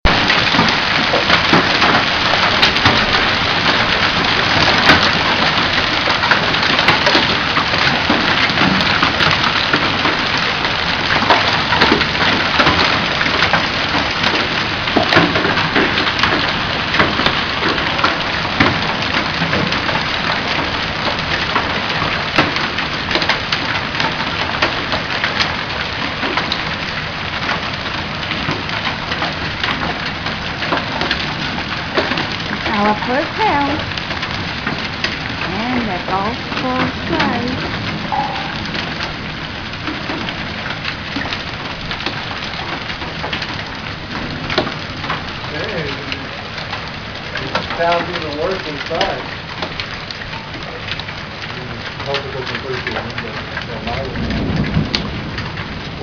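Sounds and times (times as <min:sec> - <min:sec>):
hailstones striking hard surfaces: 0:00.0 - 0:56.0
heavy rain hiss: 0:00.1 - 0:56.0.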